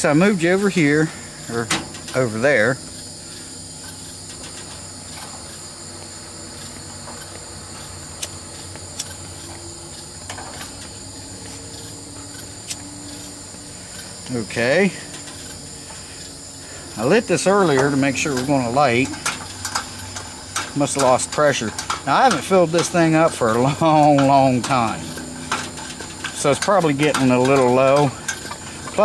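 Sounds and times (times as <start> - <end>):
crickets chirping chorus: 0.0 - 29.0.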